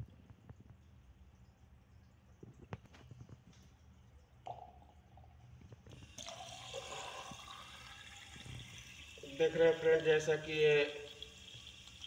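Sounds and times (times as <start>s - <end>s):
tap stream pouring down drain: 0.0s - 12.0s
water drips in basin: 0.0s - 12.0s.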